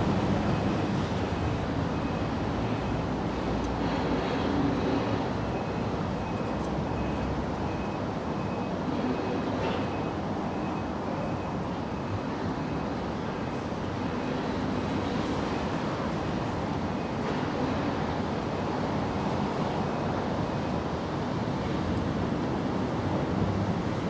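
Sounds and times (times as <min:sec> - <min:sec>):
low rumble of distant traffic: 0:00.0 - 0:24.0.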